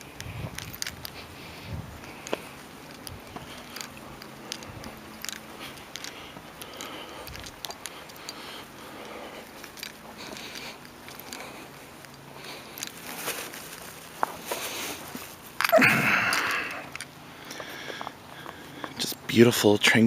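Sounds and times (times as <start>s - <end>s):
twigs and dry leaves crackling: 0.0s - 19.2s
footsteps crunching on path: 0.0s - 20.0s.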